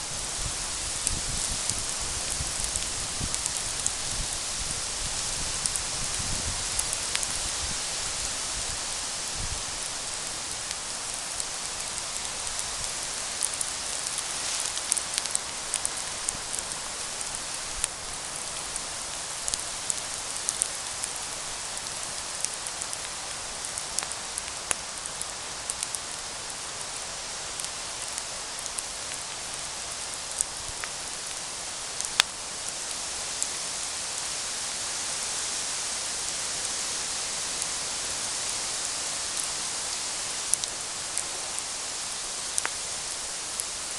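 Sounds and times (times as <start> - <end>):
campfire crackling and popping: 0.1 - 33.5, 37.6 - 43.9.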